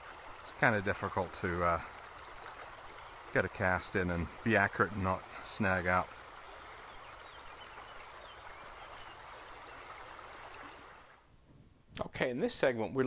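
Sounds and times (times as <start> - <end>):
creek water running over stones: 0.0 - 11.3.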